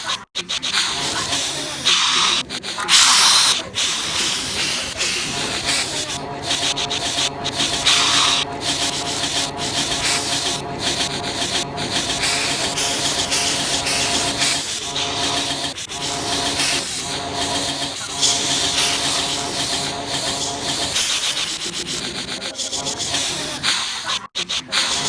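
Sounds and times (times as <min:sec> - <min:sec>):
faint hum: 0:00.7 - 0:23.7
person hissing: 0:00.7 - 0:25.0.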